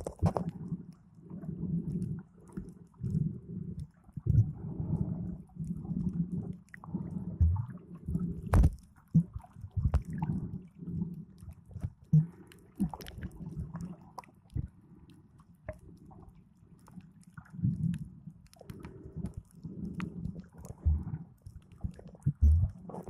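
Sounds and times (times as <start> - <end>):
muffled underwater sloshing: 0.0 - 23.0.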